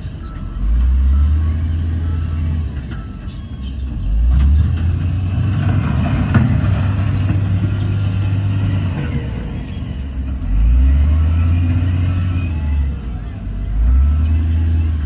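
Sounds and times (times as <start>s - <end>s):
heavy diesel engine under load: 0.0s - 15.0s.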